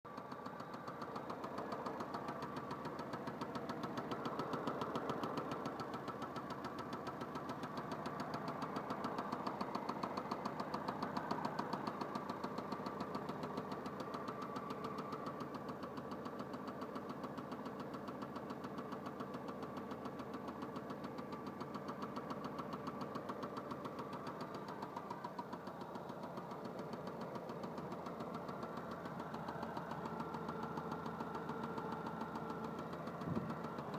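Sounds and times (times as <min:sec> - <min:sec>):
car engine idling: 0:00.0 - 0:33.9
rapid engine knock: 0:00.1 - 0:33.9.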